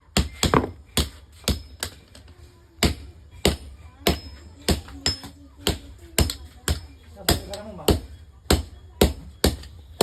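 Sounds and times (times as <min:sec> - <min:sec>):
hammer striking metal: 0:00.2 - 0:02.0, 0:02.8 - 0:09.7.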